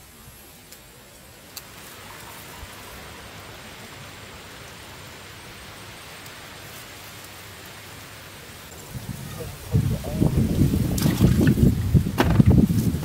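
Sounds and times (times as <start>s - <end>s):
wind through grass: 0.0s - 13.0s.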